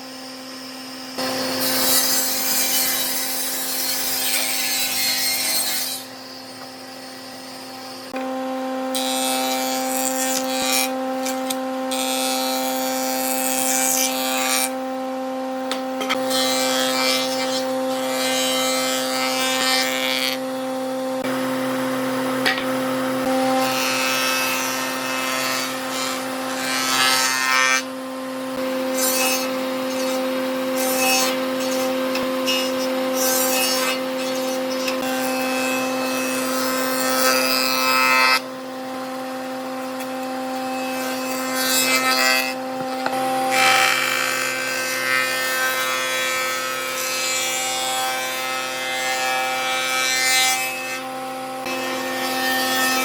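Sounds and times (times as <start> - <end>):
power tool cutting wood: 0.0 - 53.0.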